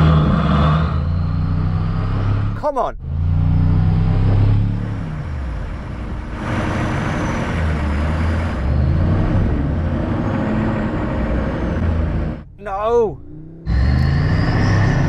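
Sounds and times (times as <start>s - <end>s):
off-road engines revving under load: 0.0s - 12.5s, 13.2s - 15.0s.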